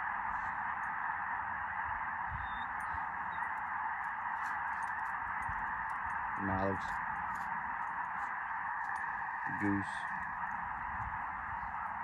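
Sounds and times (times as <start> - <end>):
flock of geese honking: 0.0 - 12.0.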